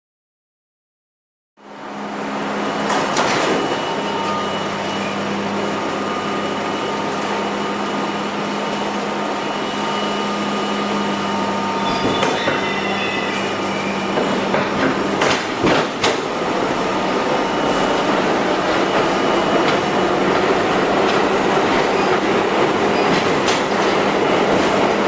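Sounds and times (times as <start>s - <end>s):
subway car rumbling: 1.6s - 25.0s.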